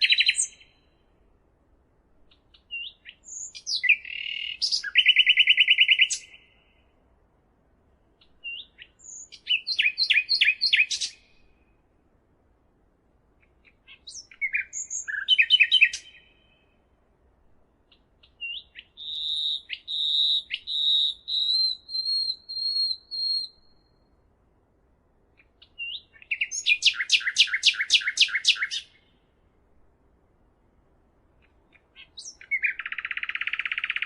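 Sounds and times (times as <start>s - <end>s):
songbird singing: 0.0s - 7.2s, 7.9s - 12.1s, 13.3s - 24.4s, 25.2s - 30.5s, 31.2s - 34.0s.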